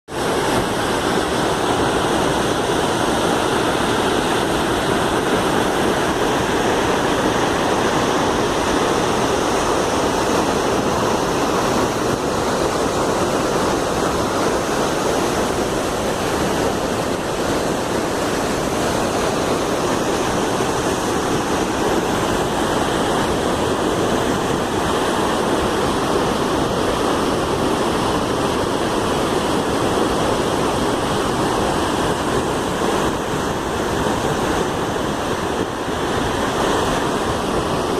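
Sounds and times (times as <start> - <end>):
waterfall splashing: 0.1 - 37.9.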